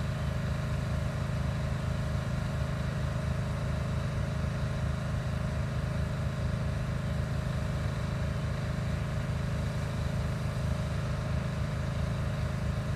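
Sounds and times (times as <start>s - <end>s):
engine running steadily: 0.0s - 12.9s.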